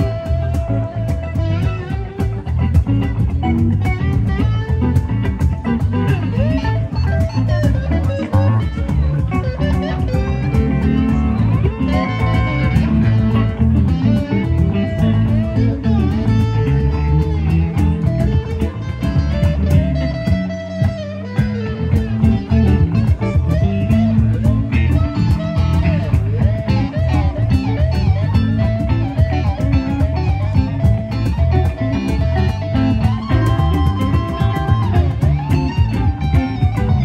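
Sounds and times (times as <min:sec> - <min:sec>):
bass guitar: 0:00.0 - 0:37.0
drums: 0:00.0 - 0:37.0
lead electric guitar: 0:00.0 - 0:37.0.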